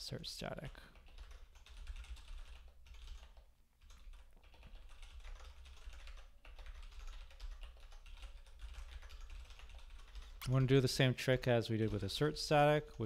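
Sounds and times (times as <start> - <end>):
typing on computer keyboard: 0.9 - 10.7, 11.8 - 13.0.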